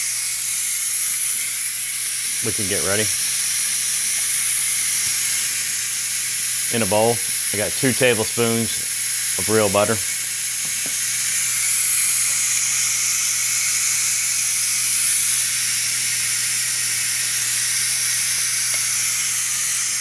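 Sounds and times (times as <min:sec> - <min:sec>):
pressure cooker steam hissing: 0:00.0 - 0:20.0.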